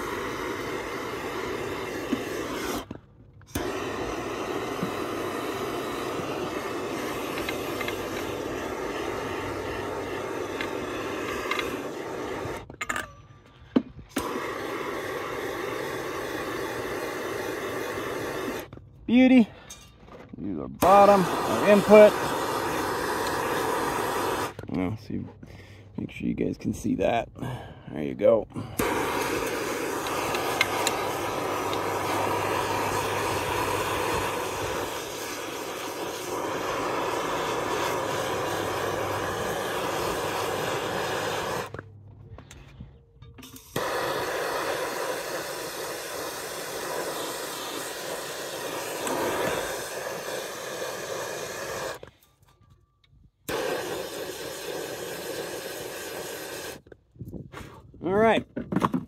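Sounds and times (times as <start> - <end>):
propane torch hissing: 0.0 - 12.8, 14.0 - 19.4, 20.8 - 24.6, 26.8 - 41.8, 43.4 - 52.1, 53.5 - 56.9.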